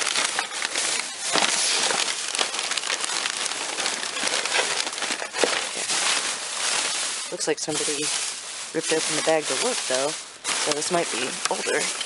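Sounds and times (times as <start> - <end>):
plastic crinkling and rustling: 0.0 - 12.0
small crackles and knocks: 0.0 - 12.0.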